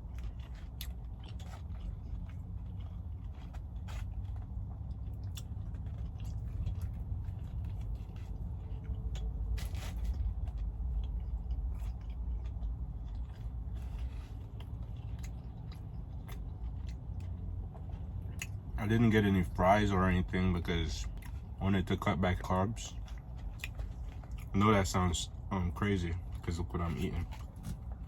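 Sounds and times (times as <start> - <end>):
chewing and crunching sandwich: 0.0 - 28.0
steady low hum: 0.0 - 28.0.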